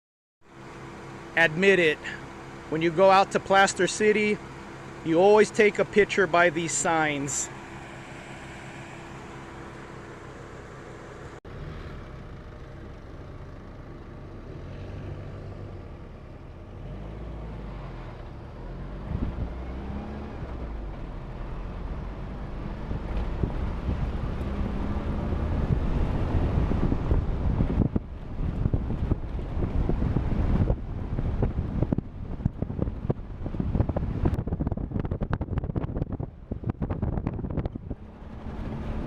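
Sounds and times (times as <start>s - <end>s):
vehicle engine driving off-road: 0.4s - 39.0s.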